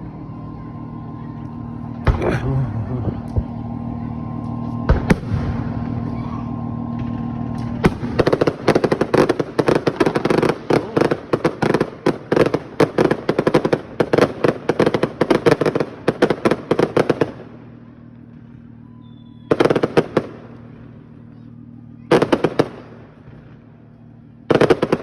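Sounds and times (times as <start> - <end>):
fireworks bangs and pops: 4.4 - 25.0.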